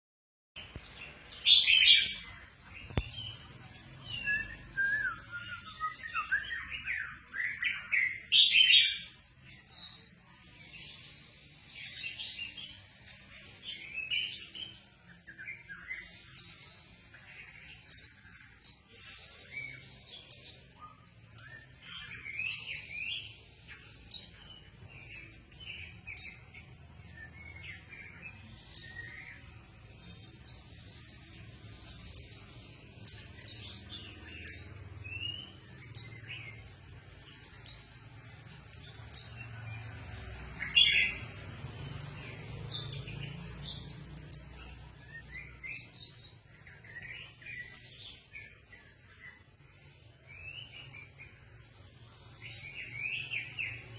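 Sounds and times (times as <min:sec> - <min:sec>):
songbird singing: 0:00.6 - 0:53.9.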